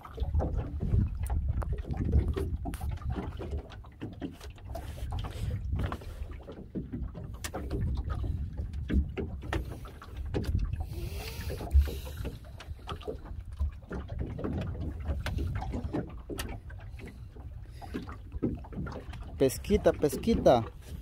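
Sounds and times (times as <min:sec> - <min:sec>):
rumble of water and wind: 0:00.0 - 0:21.0.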